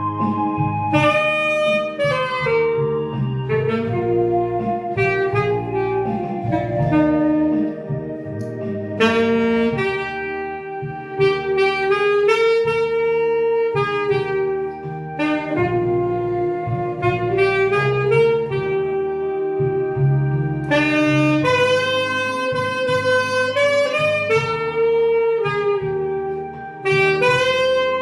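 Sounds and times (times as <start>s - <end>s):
musical accompaniment: 0.0s - 28.0s
saxophone slow melody: 0.0s - 28.0s.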